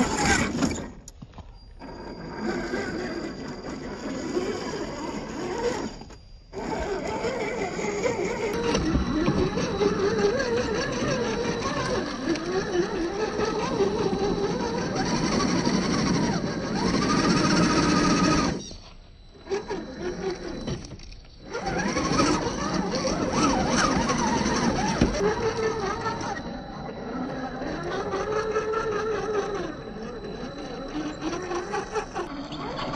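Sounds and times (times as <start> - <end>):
electric motor and gears whining: 0.0 - 32.9.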